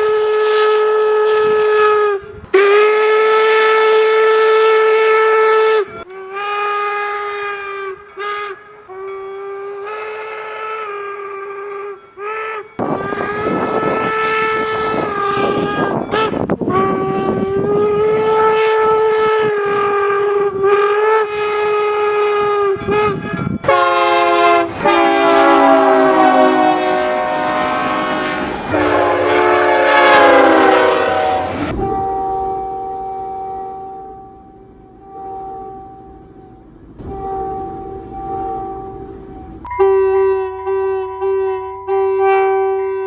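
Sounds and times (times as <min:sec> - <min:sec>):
locomotive air horn blasts: 0:00.0 - 0:43.0.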